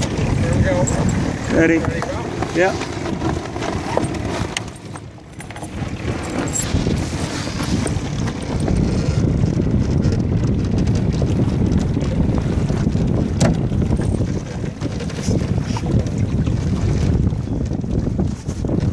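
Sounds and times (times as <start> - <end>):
water washing along hull: 0.0 - 18.9
wind rumbling on microphone: 0.0 - 18.9.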